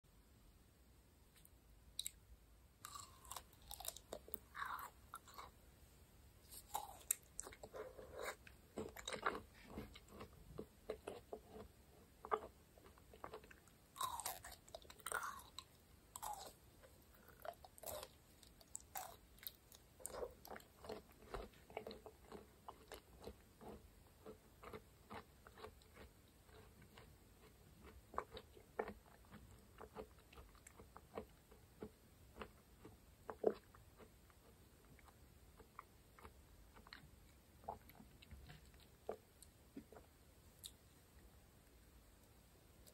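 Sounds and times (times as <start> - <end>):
biting and chewing aloe gel: 1.3 - 5.6, 6.4 - 40.9.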